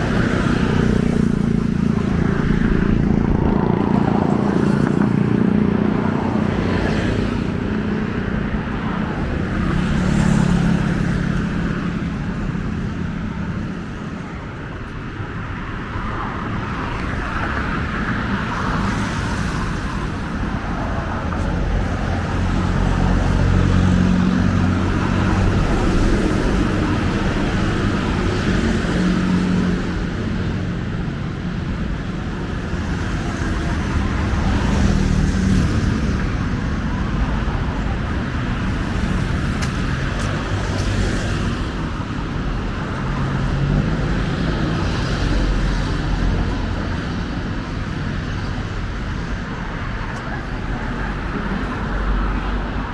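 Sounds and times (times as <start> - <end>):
car engines: 0.0 - 52.9.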